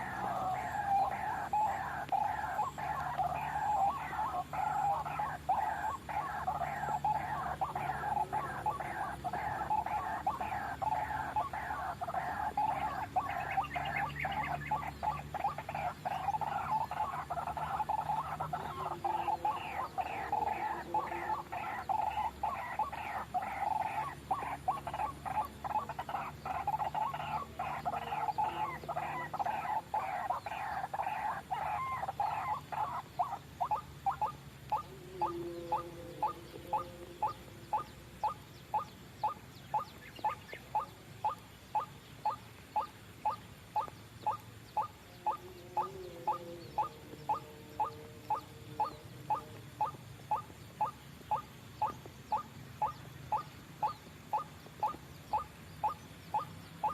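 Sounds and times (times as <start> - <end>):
waterhen calling: 0.0 - 56.9.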